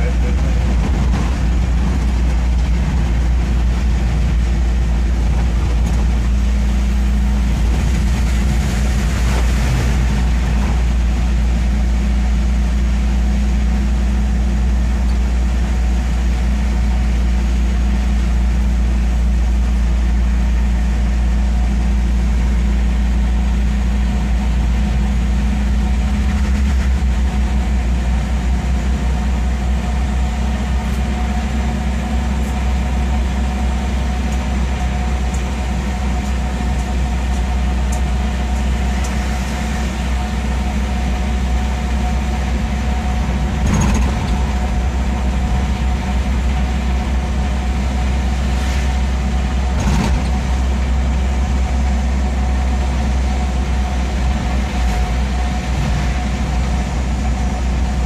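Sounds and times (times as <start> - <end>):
rain and tyres on wet road: 0.0 - 58.0
vehicle engine drone: 0.0 - 58.0.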